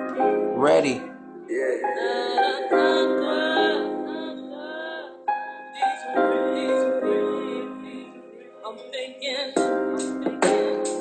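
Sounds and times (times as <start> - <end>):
person singing gliding notes: 0.0 - 11.0
piano beat: 0.0 - 11.0.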